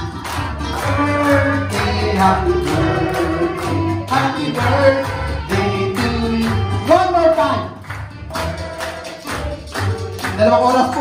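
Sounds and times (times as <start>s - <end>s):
music with singing over a beat: 0.0s - 7.0s, 8.2s - 10.8s.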